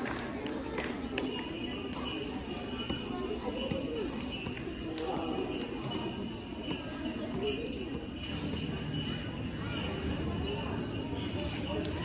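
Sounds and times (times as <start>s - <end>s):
faint children's voices: 0.0s - 12.0s
jingle bells shaken: 0.1s - 12.0s.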